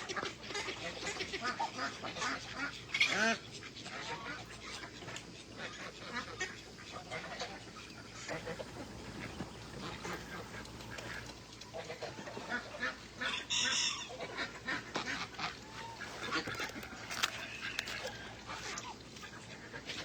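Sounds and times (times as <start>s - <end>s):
ducks and geese quacking and honking: 0.0s - 20.0s.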